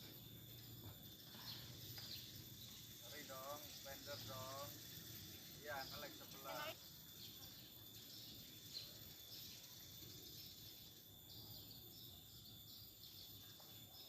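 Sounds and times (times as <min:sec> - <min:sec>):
insects chirping: 0:00.0 - 0:14.0
steady high buzz: 0:00.0 - 0:14.0.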